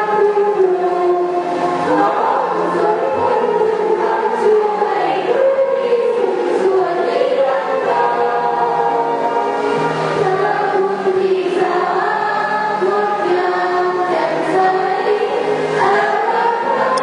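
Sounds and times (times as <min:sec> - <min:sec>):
choir singing in harmony: 0:00.0 - 0:17.0.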